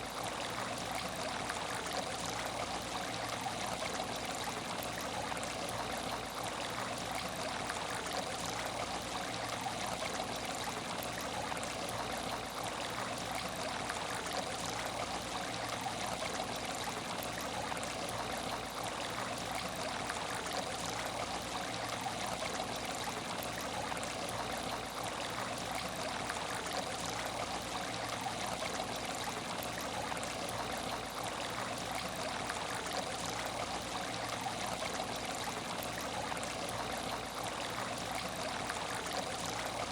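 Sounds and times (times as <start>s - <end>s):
water trickling in aquarium: 0.0s - 39.9s.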